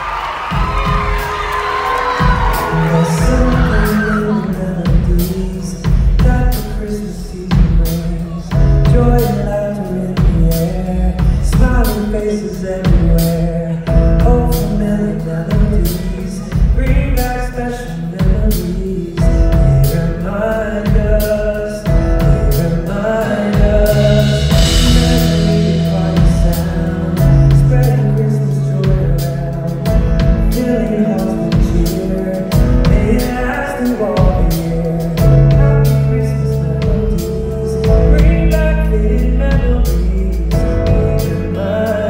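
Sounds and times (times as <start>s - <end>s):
band playing: 0.0s - 42.0s
man singing into microphone: 2.1s - 42.0s.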